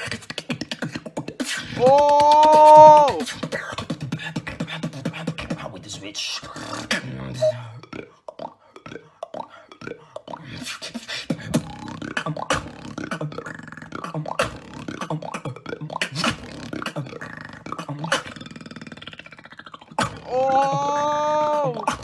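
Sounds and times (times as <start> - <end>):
person beatboxing: 0.0 - 22.0.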